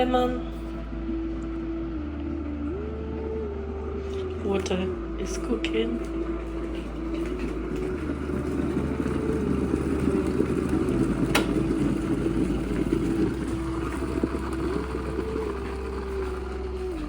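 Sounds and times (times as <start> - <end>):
water rushing and rumbling: 0.0 - 17.0.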